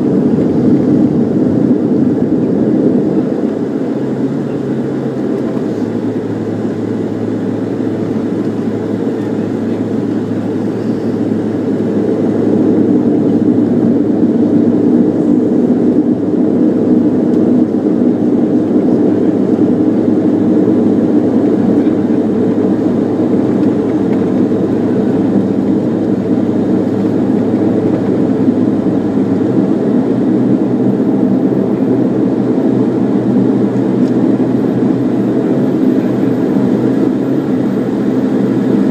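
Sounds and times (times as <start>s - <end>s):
turboprop engine drone in cabin: 0.0s - 38.9s.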